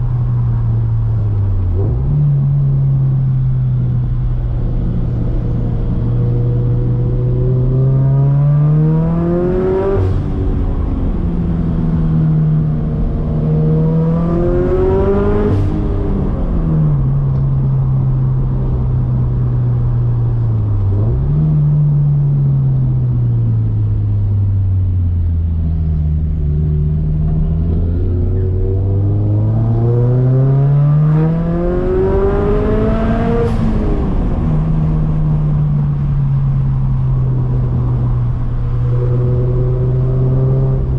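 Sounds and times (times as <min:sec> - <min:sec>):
car engine revving: 0:00.0 - 0:24.3, 0:24.9 - 0:40.9.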